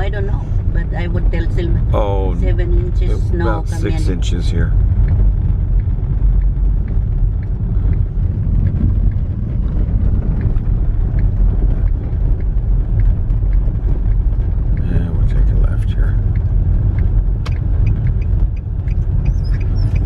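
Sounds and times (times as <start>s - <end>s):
car rumble from inside cabin: 0.0s - 20.0s.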